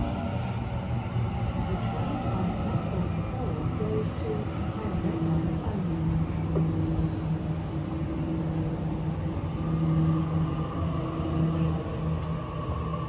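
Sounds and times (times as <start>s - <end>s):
electric train rumbling: 0.0s - 13.0s
electrical hum: 0.8s - 13.0s.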